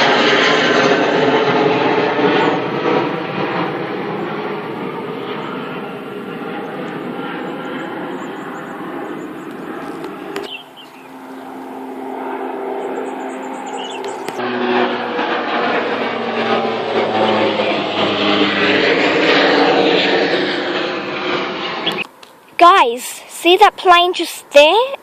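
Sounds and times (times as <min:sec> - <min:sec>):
steady hum with low drone: 0:00.0 - 0:23.8
jet engines roaring: 0:00.0 - 0:25.0.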